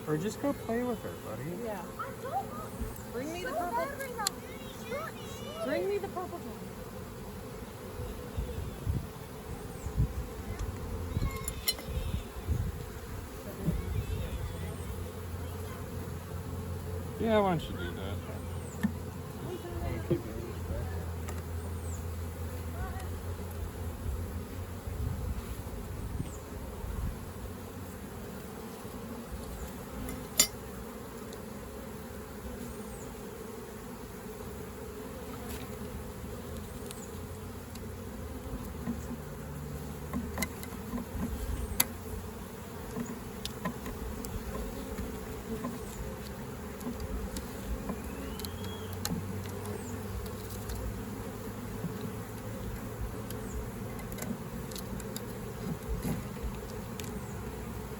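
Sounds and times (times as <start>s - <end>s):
honeybees buzzing: 0.0s - 57.9s.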